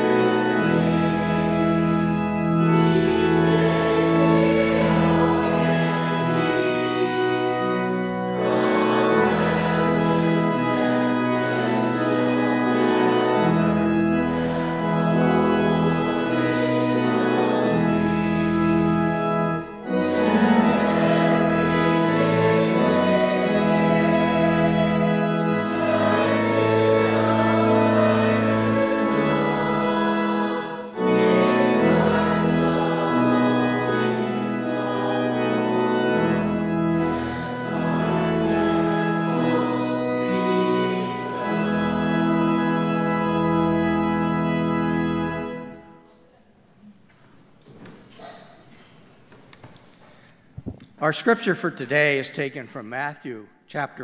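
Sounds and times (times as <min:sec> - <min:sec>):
church organ chords: 0:00.0 - 0:46.2, 0:51.0 - 0:54.0.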